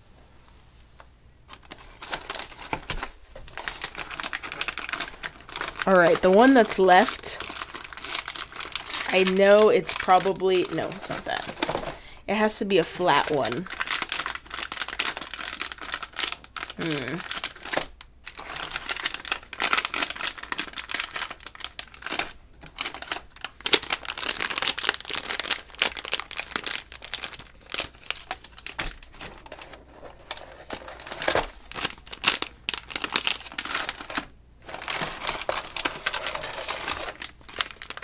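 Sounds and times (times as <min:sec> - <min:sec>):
foil bag crinkling: 0:01.5 - 0:38.0.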